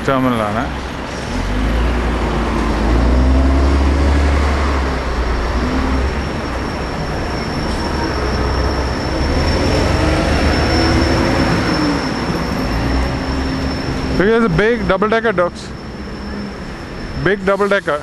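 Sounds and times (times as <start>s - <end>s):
large vehicle rumble: 0.0s - 18.0s.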